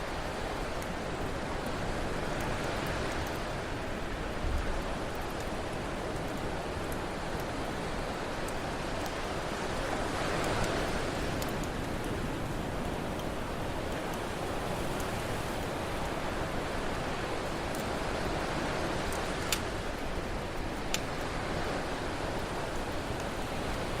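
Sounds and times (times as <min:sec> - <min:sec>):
campfire crackling and popping: 0:00.0 - 0:24.0
ocean surf: 0:00.0 - 0:24.0.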